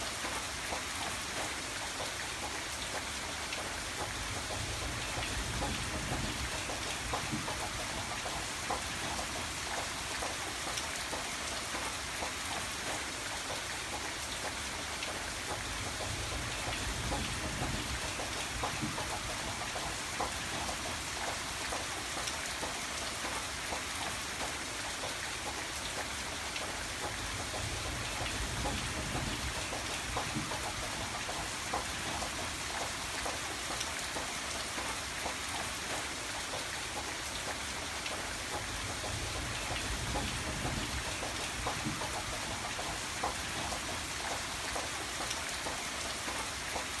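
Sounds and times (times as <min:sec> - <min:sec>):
rain drops ticking on surface: 0:00.0 - 0:47.0.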